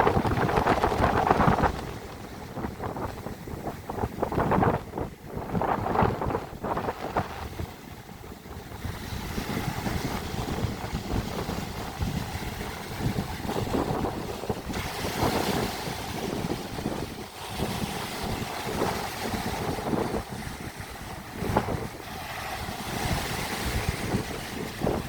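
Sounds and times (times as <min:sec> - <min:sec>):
sea waves washing in: 0:00.0 - 0:25.0
wind buffeting microphone: 0:00.0 - 0:25.0.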